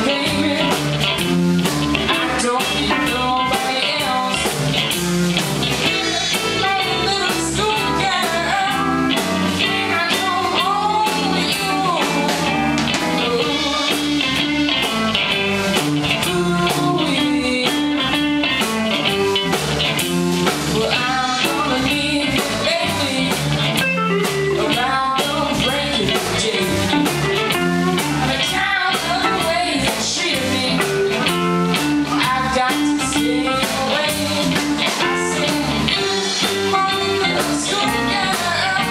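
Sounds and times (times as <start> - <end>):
drum kit: 0.0 - 38.9
electric bass: 0.0 - 38.9
electric guitars: 0.0 - 38.9.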